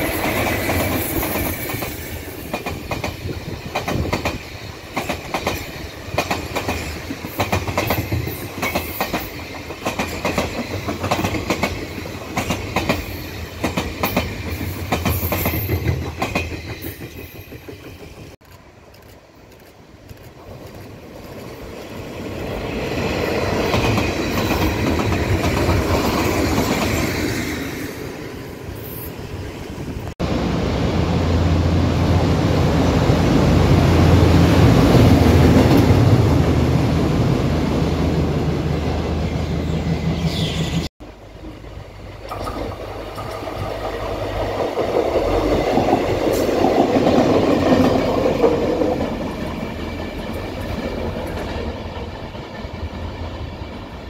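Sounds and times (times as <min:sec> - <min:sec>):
locomotive train passing: 0:00.0 - 0:54.0
maintenance rail car passing: 0:00.0 - 0:54.0
rail vehicle engine hum: 0:00.0 - 0:54.0.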